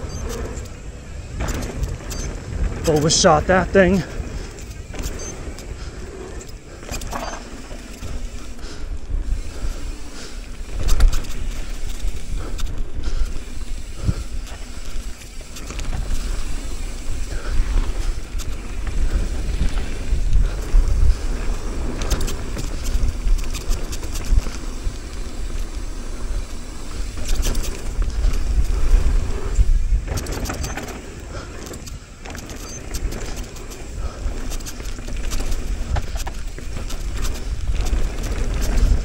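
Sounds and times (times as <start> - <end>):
bike rattling and clicking: 0.0 - 39.0
tyre noise on dirt: 0.0 - 39.0
wind buffeting microphone: 0.0 - 39.0.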